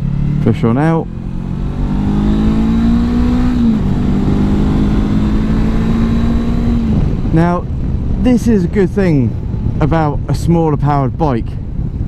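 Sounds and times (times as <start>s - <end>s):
motorcycle engine accelerating: 0.0s - 10.3s
wind rush: 1.1s - 12.0s.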